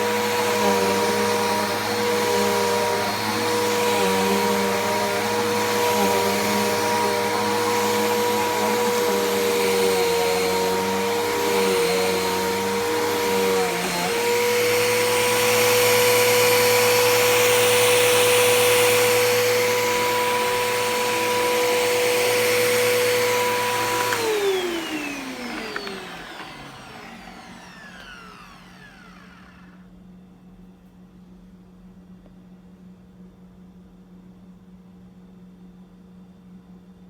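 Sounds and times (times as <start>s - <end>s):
motor spinning down: 0.0s - 29.8s
vacuum cleaner motor whining: 0.0s - 29.8s.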